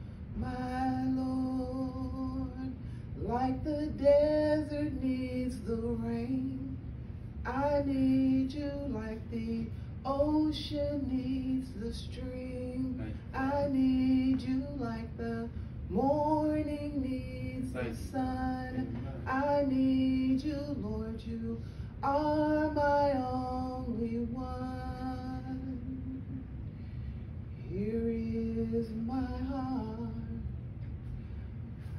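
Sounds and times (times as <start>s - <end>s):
woman singing into a microphone: 0.4s - 6.8s, 7.5s - 26.3s, 27.6s - 30.5s.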